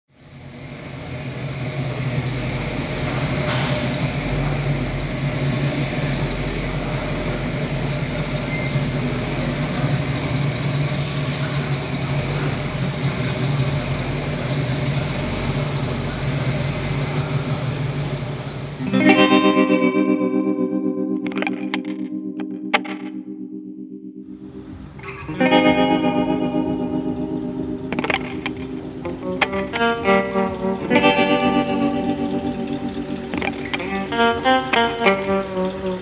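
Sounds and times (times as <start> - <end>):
car engine idling: 0.1 - 19.3, 24.3 - 36.0.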